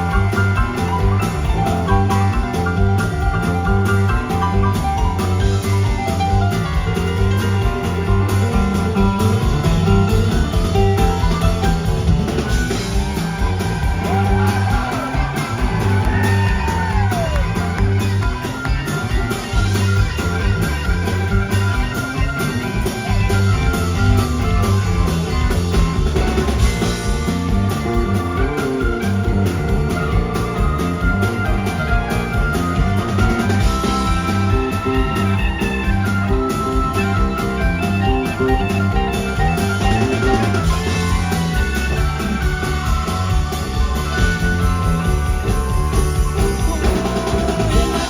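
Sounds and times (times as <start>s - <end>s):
drum kit: 0.0s - 48.0s
electric guitar: 0.0s - 48.0s
live rock band playing: 0.0s - 48.0s.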